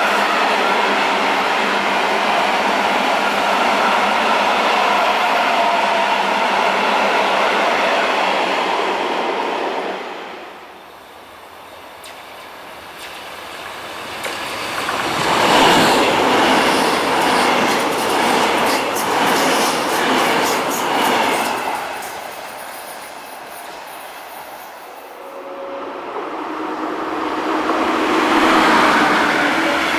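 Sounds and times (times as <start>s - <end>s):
commuter train passing: 0.0s - 29.9s
freight train rumbling past: 0.0s - 29.9s.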